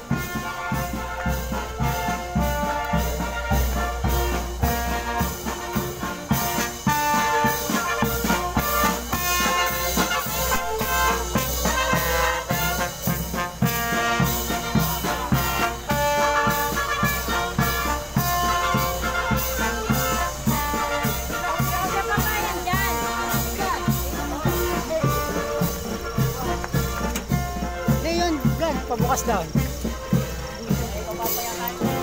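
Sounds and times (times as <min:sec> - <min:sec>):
brass band playing: 0:00.0 - 0:32.0
steady drum beat: 0:00.0 - 0:32.0.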